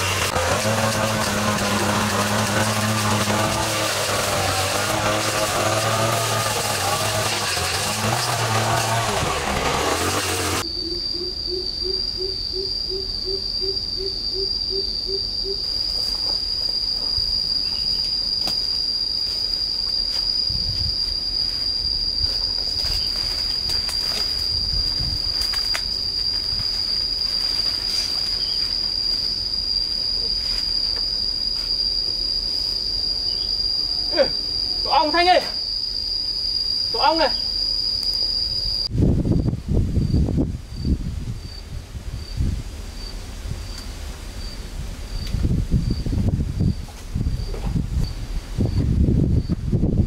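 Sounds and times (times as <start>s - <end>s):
insects buzzing: 0.0s - 50.0s.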